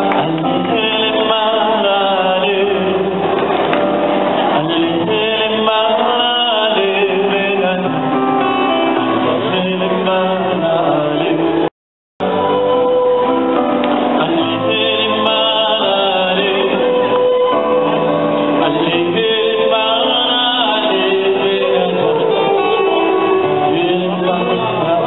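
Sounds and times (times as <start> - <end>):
live band with singer: 0.0 - 25.0.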